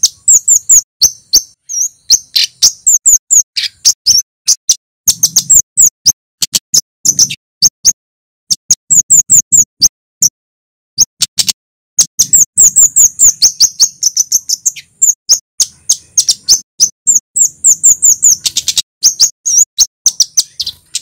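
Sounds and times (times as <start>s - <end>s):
songbird chirping: 0.0s - 10.4s, 11.0s - 21.0s.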